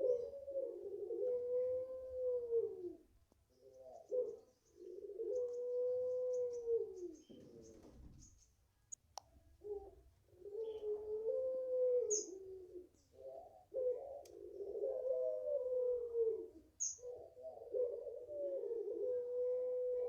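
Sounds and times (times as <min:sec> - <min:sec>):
dove cooing: 0:00.0 - 0:08.4, 0:09.5 - 0:20.0.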